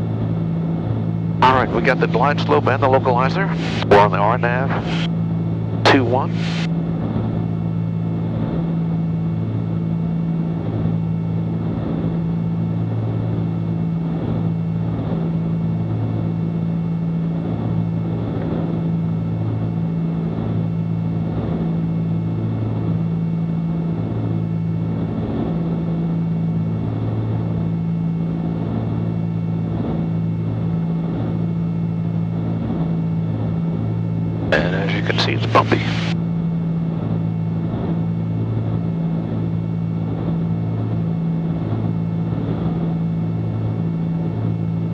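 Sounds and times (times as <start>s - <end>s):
propeller plane cabin drone: 0.0s - 44.9s.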